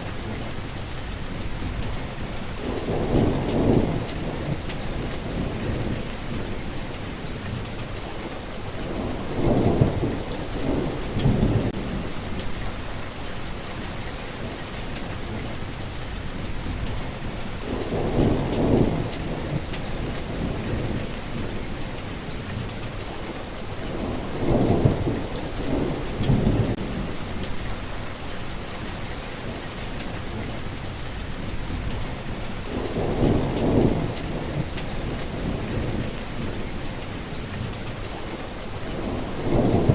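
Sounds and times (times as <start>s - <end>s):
heavy rain falling: 0.0s - 39.9s
thunder rumbling: 0.1s - 8.0s, 8.7s - 23.0s, 23.7s - 38.2s, 38.8s - 39.9s.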